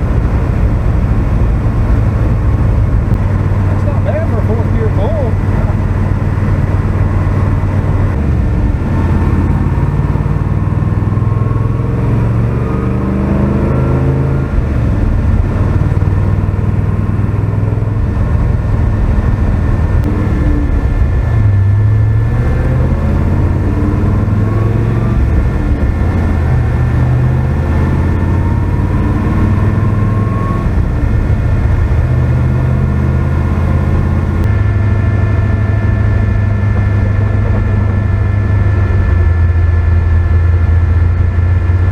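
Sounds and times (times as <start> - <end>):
pickup truck engine accelerating: 0.0 - 41.9.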